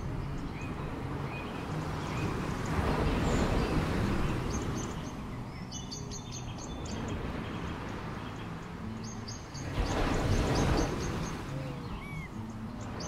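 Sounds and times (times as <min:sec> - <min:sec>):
small waves washing on beach: 0:00.0 - 0:05.6, 0:06.8 - 0:13.0
small birds chirping: 0:00.0 - 0:13.0.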